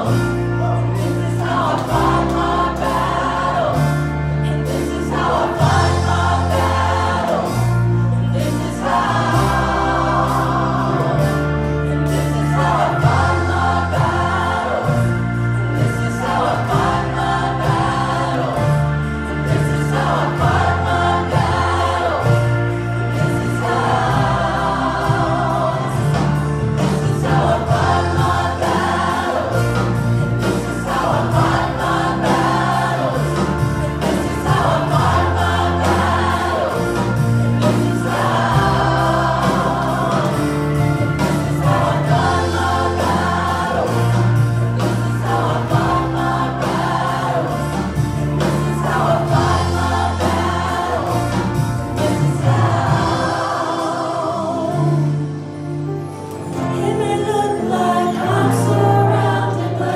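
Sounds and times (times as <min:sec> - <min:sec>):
women singing together: 0:00.0 - 0:26.4, 0:27.0 - 0:55.2, 0:56.7 - 0:59.9
low bass notes: 0:00.0 - 0:56.1
band accompaniment: 0:00.0 - 0:59.9.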